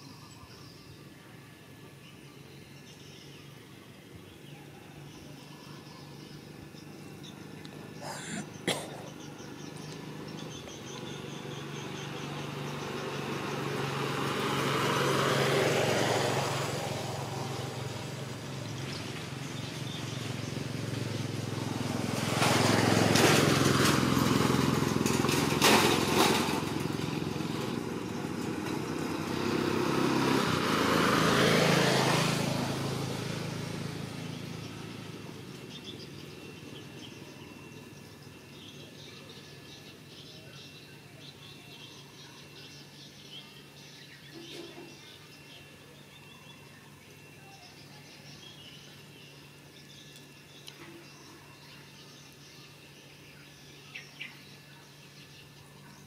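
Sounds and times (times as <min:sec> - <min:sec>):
vehicles driving past: 0:00.9 - 0:56.0.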